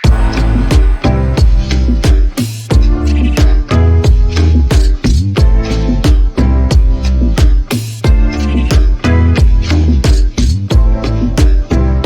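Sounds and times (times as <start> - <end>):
instrumental music with heavy beat: 0.0 - 12.0.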